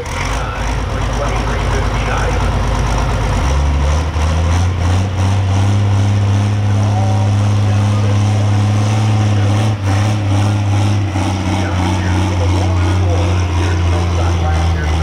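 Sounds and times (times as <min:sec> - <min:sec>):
diesel tractor engine running hard: 0:00.0 - 0:15.0.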